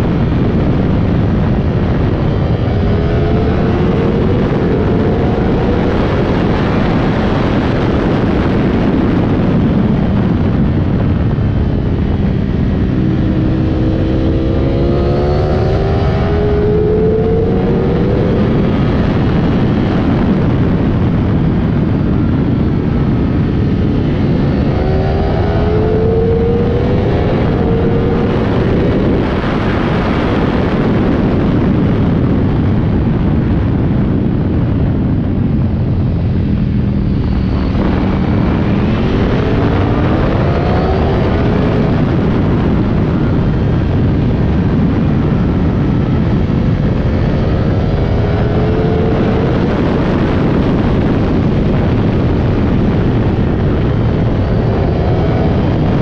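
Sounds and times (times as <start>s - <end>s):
motorcycle engine revving: 0.0s - 56.0s
wind rush over microphone: 0.0s - 56.0s.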